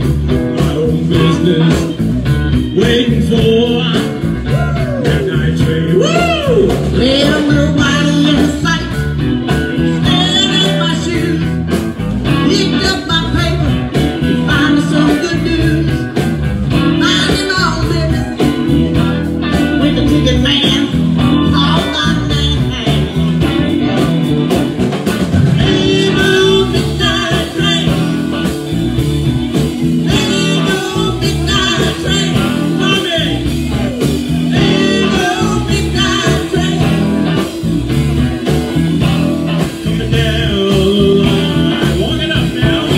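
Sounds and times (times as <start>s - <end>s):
blues band playing: 0.0s - 42.9s.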